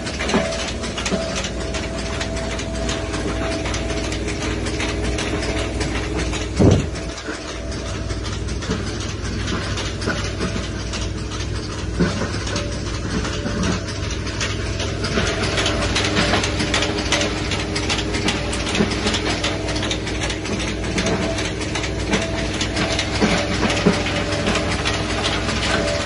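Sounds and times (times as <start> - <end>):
motor and pulley hum: 0.0 - 26.0.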